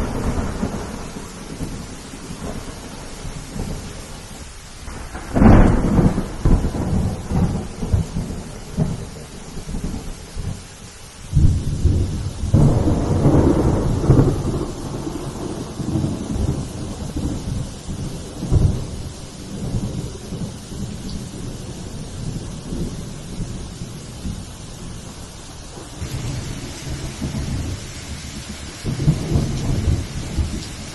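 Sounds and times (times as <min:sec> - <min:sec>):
rolling thunder: 0:00.0 - 0:30.9
steady rain: 0:00.0 - 0:30.9.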